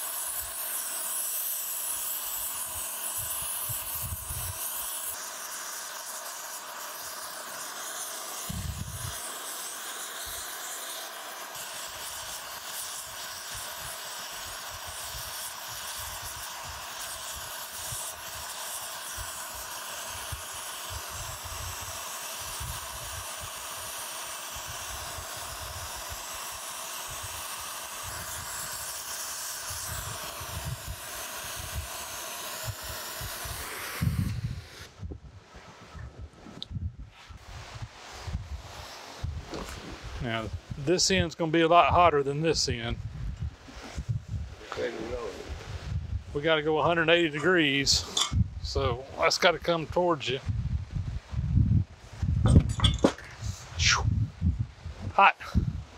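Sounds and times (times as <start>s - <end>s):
torch flame hissing: 0.0s - 35.2s, 36.6s - 55.9s.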